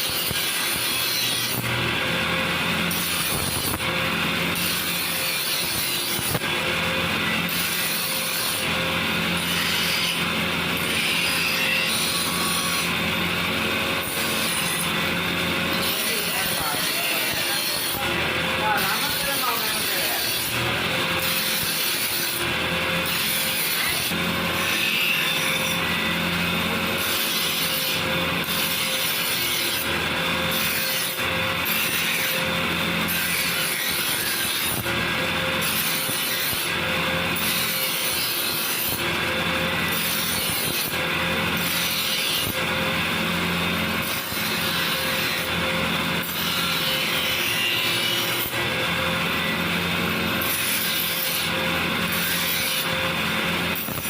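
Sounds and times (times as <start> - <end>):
grinder humming: 0.0 - 54.0
grinder rasping on steel: 0.0 - 54.0.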